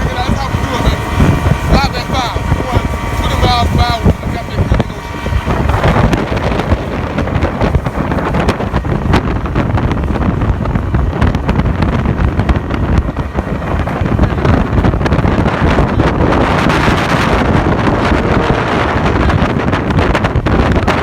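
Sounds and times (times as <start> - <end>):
boat motor rushing: 0.0 - 21.0
water rushing under boat: 0.0 - 21.0
wind buffeting microphone: 0.0 - 21.0.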